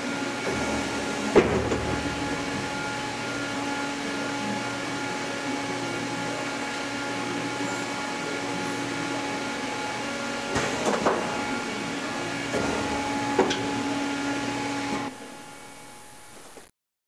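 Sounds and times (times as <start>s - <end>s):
welding machine humming: 0.0s - 16.7s.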